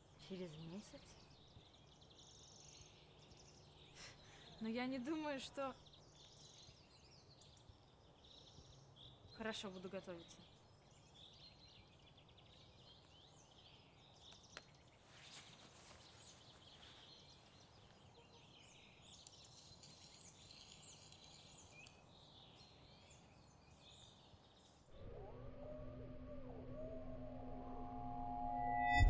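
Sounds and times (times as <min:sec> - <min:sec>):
small birds chirping: 0:00.0 - 0:25.1.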